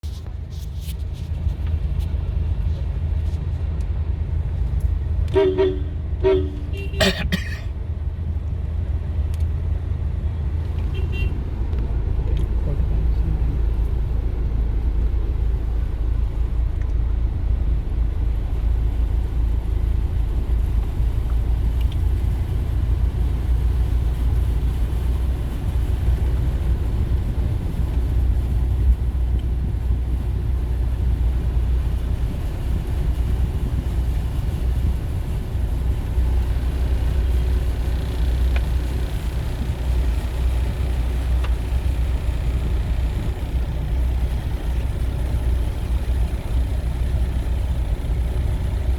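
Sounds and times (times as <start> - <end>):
low rumble of road vehicles: 0.0 - 48.9.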